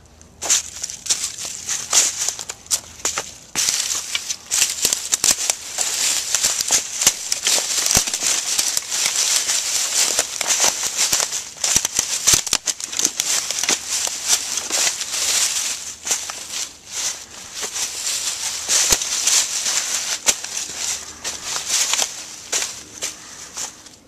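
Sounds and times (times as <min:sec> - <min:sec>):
footsteps crunching through dry leaves: 0:00.0 - 0:24.0
steady high hiss: 0:00.0 - 0:24.0.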